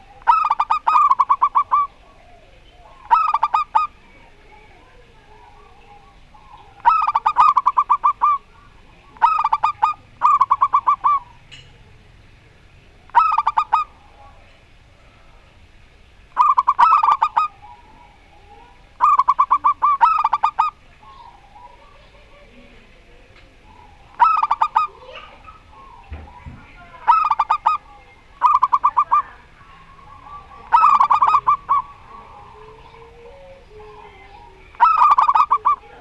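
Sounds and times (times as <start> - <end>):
doves cooing: 0.0 - 36.0
small birds chirping: 0.0 - 36.0.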